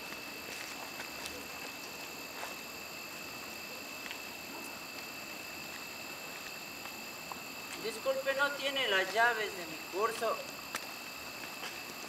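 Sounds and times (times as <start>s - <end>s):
night insect chorus: 0.0s - 12.0s.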